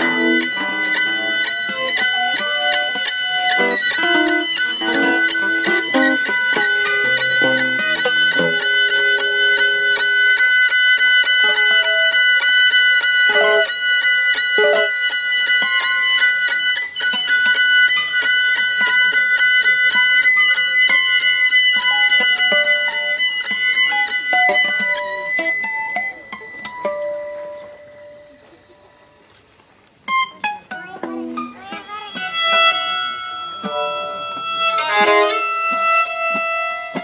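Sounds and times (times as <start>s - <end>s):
violin holding high tones: 0.0s - 29.3s, 30.2s - 37.0s
plucked guitar notes: 0.0s - 37.0s.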